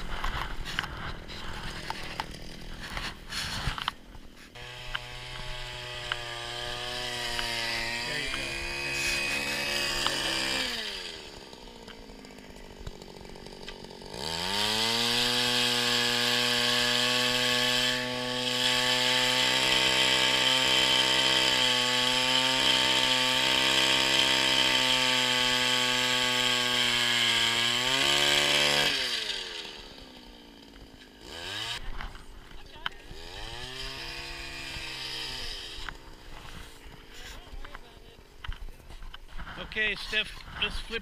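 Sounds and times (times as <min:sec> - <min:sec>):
ice auger engine revving: 0:00.0 - 0:41.0.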